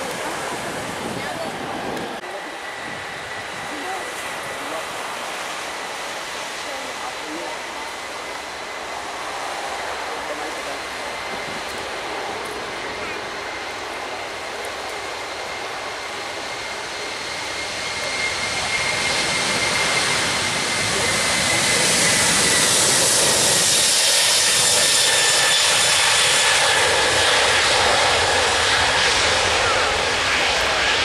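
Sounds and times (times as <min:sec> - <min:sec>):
high turbine whine: 0:00.0 - 0:31.0
jet engines roaring overhead: 0:00.0 - 0:31.0.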